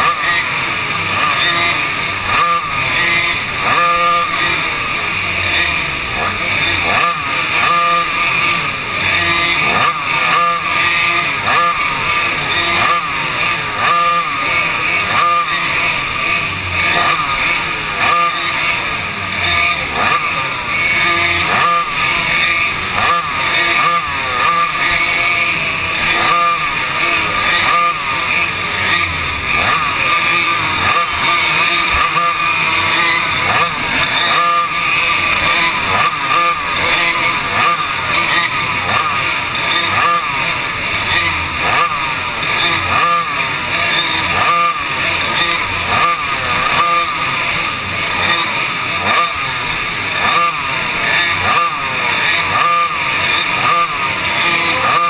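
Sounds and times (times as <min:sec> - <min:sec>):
kart engines racing: 0:00.0 - 0:55.0.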